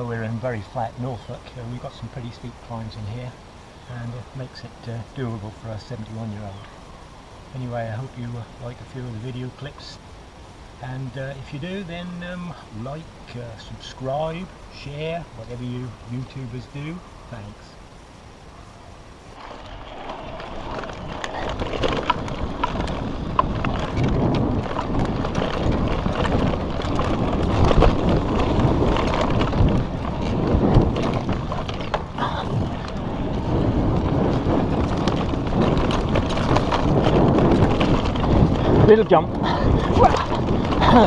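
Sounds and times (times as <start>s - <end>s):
bike rattling: 0.0s - 17.0s, 18.3s - 41.0s
bike tyres rolling on dirt: 0.0s - 41.0s
wind buffeting microphone: 0.0s - 41.0s.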